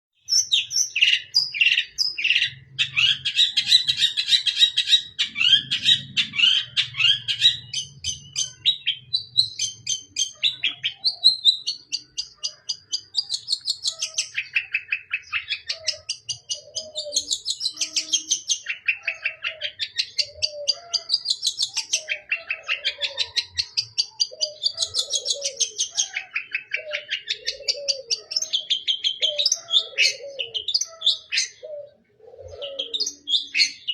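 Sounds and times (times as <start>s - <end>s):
bird singing chattering notes: 0.1s - 33.9s.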